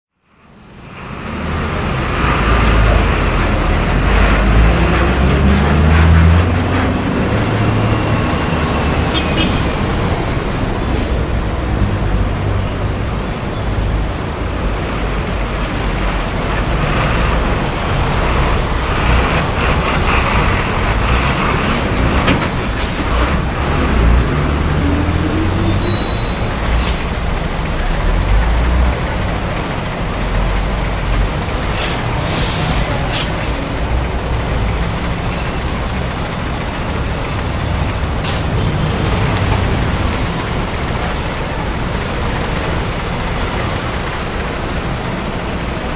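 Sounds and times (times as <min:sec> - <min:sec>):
traffic rumble: 0:00.2 - 0:45.9.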